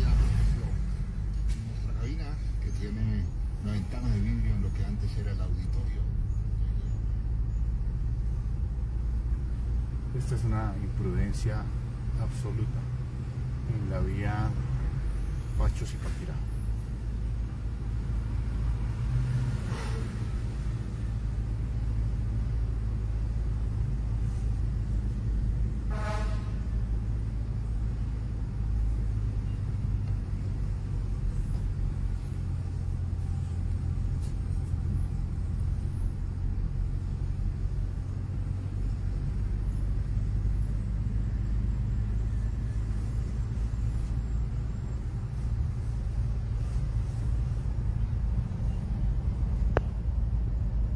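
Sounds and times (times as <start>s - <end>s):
car engine and tyres rumbling: 0.0s - 50.9s.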